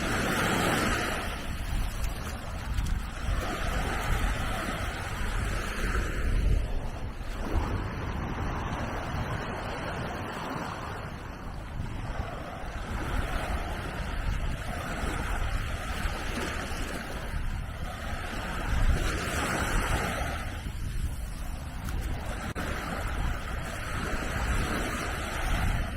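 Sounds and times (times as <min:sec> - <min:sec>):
waves washing onto beach: 0:00.0 - 0:25.9
wind on microphone: 0:00.0 - 0:25.9.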